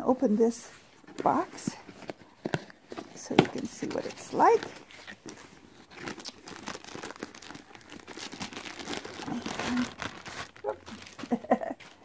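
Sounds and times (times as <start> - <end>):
packaging crackling and rustling: 0.9 - 12.0.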